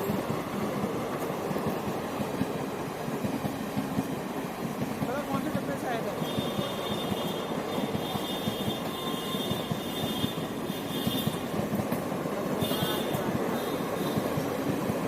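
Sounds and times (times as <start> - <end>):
rail vehicle rattling: 0.0 - 15.0.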